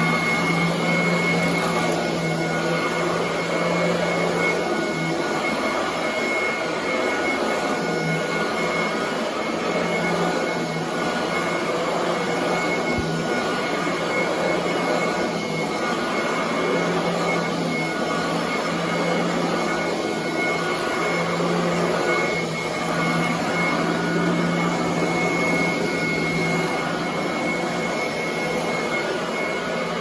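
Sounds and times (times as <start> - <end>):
vacuum cleaner running on carpet: 0.0 - 30.0.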